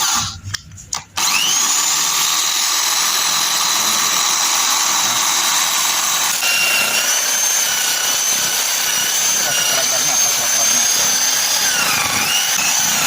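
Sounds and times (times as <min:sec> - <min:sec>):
grinder motor whine: 0:00.0 - 0:00.4, 0:01.2 - 0:13.0.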